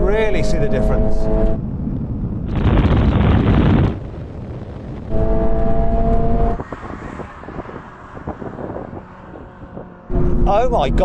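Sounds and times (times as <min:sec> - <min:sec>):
sports car engine racing: 0:00.0 - 0:02.0, 0:03.9 - 0:11.0.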